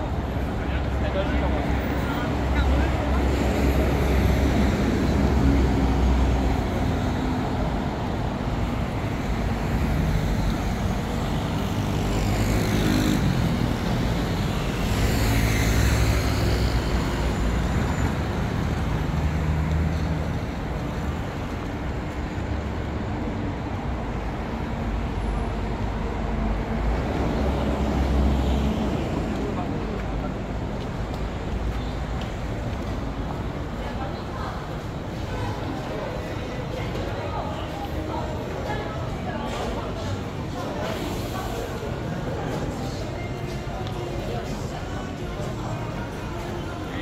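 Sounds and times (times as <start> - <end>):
road traffic noise: 0.0 - 47.0
vehicles passing close: 0.0 - 47.0.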